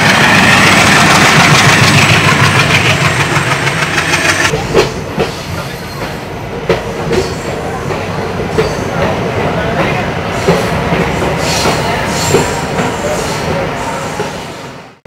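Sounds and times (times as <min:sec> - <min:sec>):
train wheels on track: 0:00.0 - 0:15.0.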